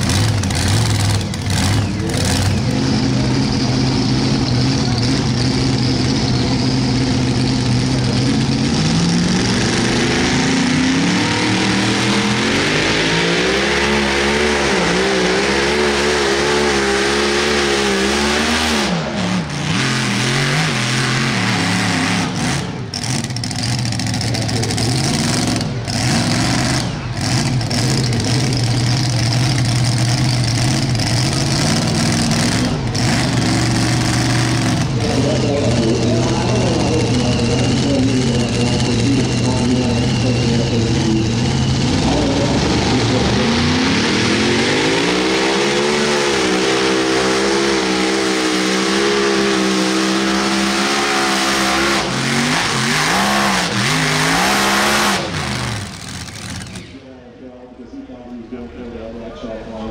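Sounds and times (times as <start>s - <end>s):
tractor engine revving: 0.0s - 57.2s.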